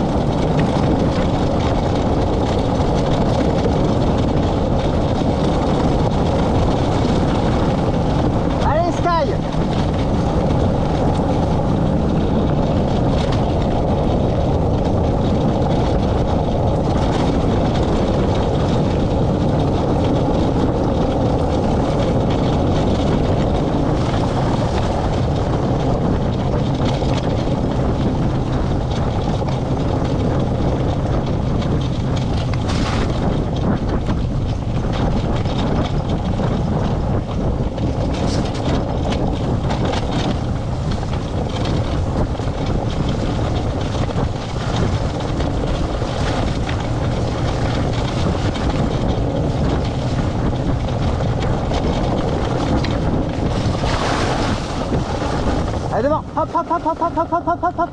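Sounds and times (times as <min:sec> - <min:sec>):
tyres rumbling on dirt: 0:00.0 - 0:57.9
wind on microphone: 0:00.0 - 0:57.9.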